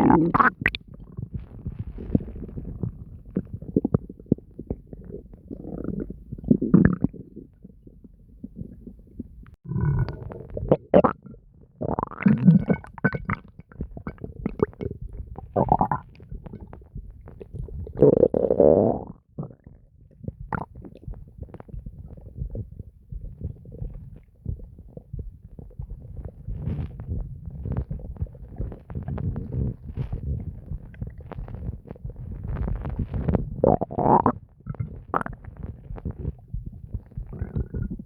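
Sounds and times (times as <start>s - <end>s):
stomach gurgling and growling: 0.0s - 38.0s.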